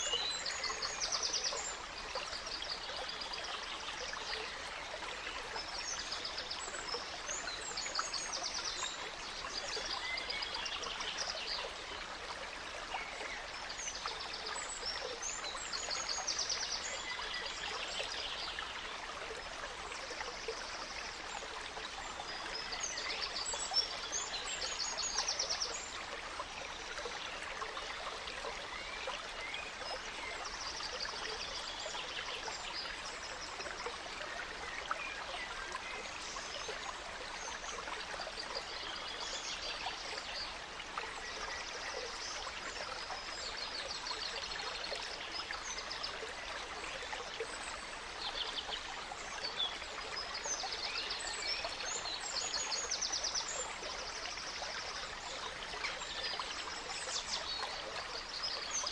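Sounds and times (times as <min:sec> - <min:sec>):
gentle stream running: 0:00.0 - 0:58.9
songbirds chirping: 0:00.0 - 0:58.9.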